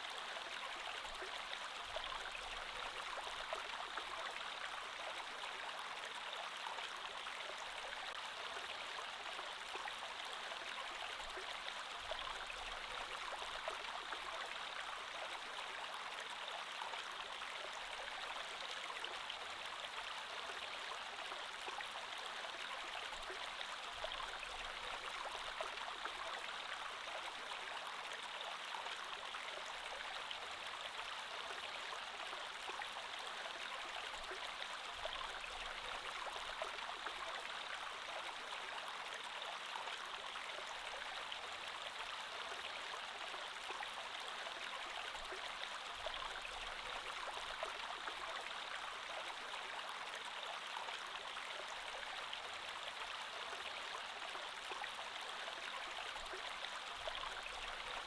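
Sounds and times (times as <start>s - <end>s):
creek water flowing over stones: 0.0s - 58.0s.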